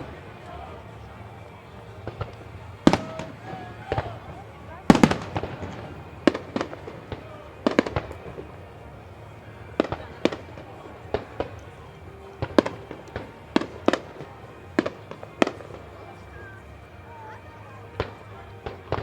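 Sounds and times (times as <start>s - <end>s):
firework shells bursting: 0.0s - 19.0s.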